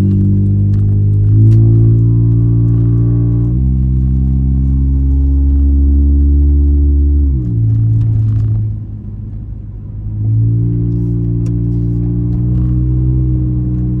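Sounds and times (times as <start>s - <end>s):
car exhaust droning: 0.0s - 14.0s.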